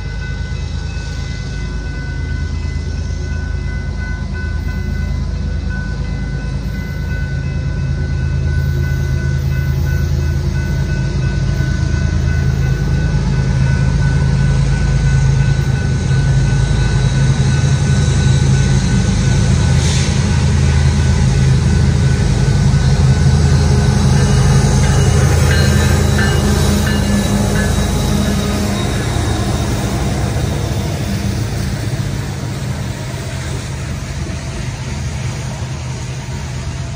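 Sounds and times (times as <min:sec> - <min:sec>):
diesel locomotive rumble: 0:00.0 - 0:36.9.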